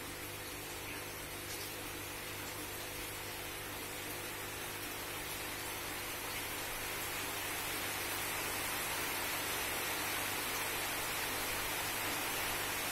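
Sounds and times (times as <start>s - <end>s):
steady hissing noise: 0.0s - 12.9s.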